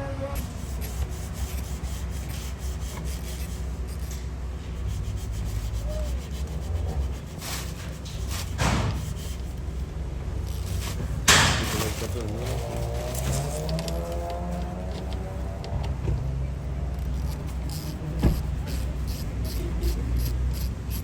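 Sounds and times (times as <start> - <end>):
steady low rumble: 0.0 - 21.0
sanding rubbing strokes: 0.4 - 15.4, 17.1 - 21.0.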